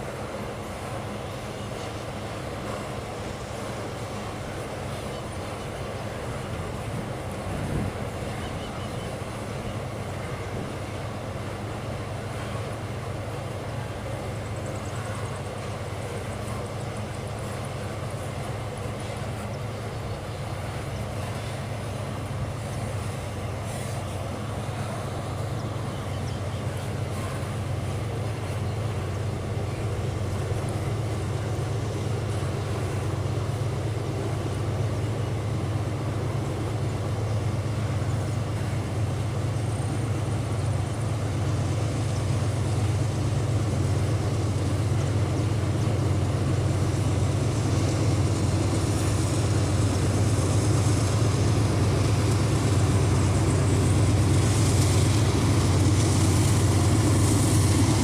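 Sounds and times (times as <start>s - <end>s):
diesel locomotive drone: 0.0s - 58.0s
train rolling noise: 0.0s - 58.0s.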